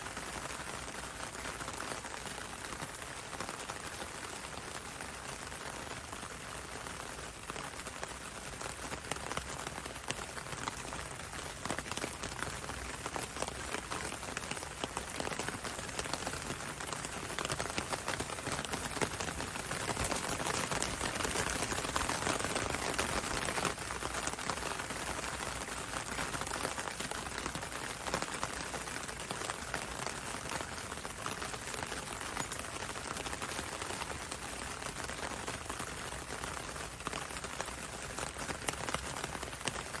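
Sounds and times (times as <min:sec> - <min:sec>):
raindrops ticking: 0:00.0 - 0:40.0
steady rain on window and road: 0:00.0 - 0:40.0.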